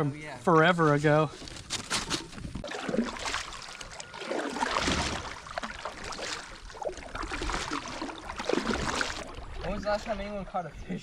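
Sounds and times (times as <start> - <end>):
water lapping around kayak: 1.1 - 10.5.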